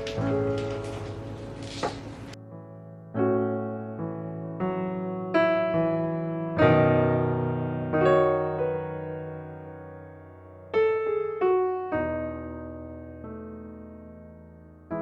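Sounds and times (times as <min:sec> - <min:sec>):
soft electric piano chords: 0:00.0 - 0:15.0.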